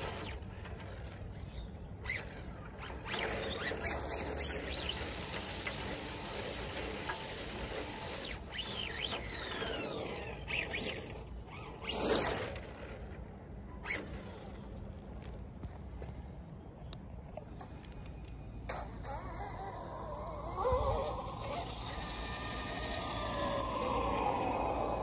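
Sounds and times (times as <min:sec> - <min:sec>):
toy car electric motor whining: 0:00.0 - 0:13.1, 0:13.7 - 0:14.9, 0:18.7 - 0:25.0.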